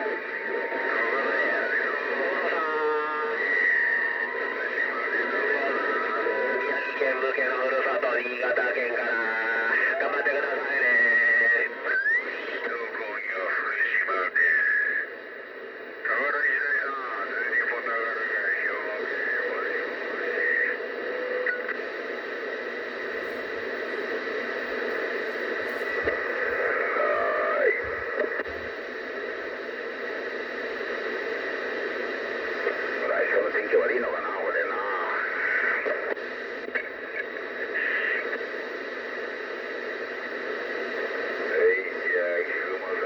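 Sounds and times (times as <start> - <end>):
garbled distant radio voices: 0.0 - 15.0, 16.0 - 38.4
radio static hiss: 0.0 - 43.0.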